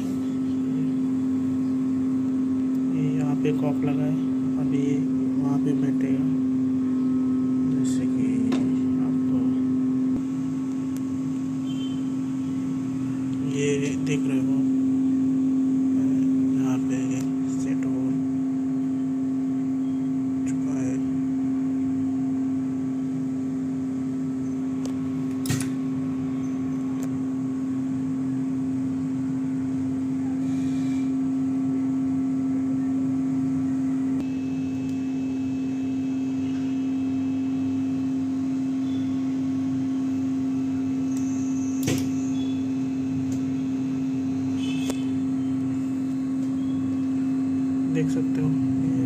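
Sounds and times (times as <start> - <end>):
machine electrical hum: 0.0 - 49.0.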